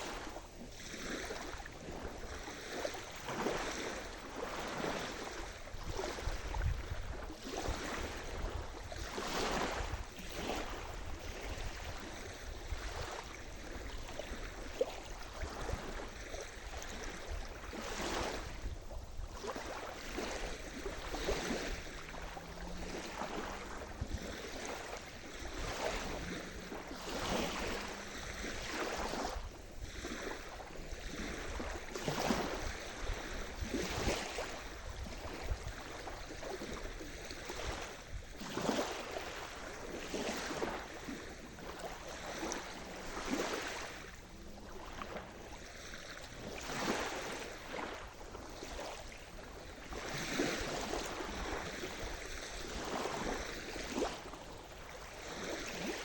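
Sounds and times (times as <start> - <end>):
small waves breaking on shore: 0.0 - 56.0.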